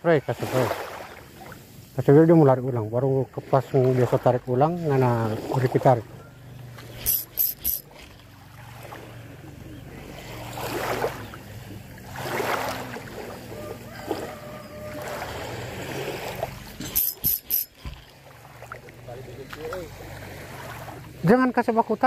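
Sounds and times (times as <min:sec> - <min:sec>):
distant boat engine humming: 0:00.0 - 0:22.0.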